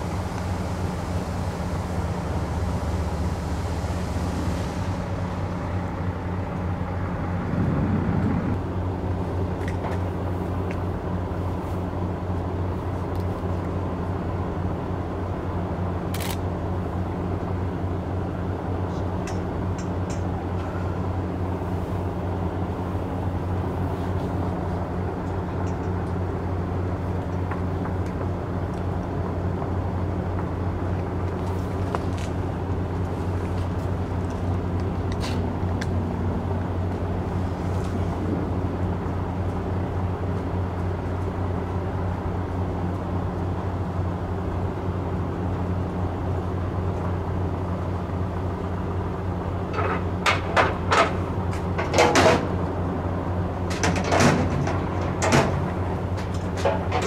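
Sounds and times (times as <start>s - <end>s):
diesel engines idling: 0.0s - 57.0s.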